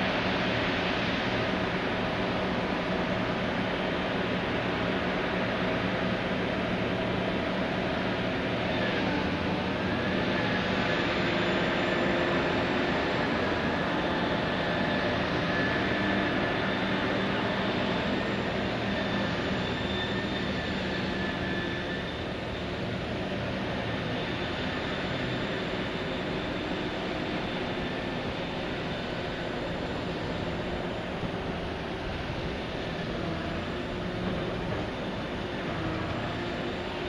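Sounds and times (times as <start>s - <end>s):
dredger machinery drone: 0.0s - 37.0s
faint wavering high whine: 0.0s - 37.0s.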